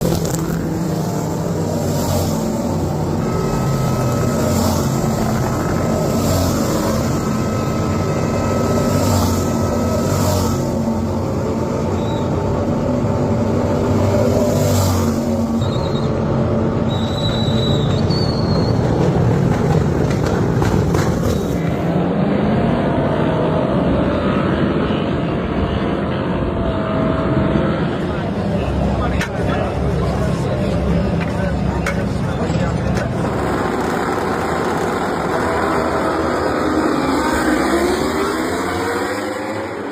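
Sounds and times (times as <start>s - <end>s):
motorcycle engines racing: 0.0s - 39.9s.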